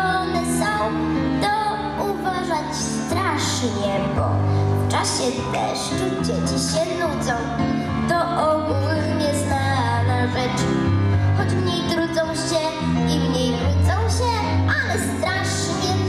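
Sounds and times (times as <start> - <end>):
girl singing into microphone: 0.0 - 16.0.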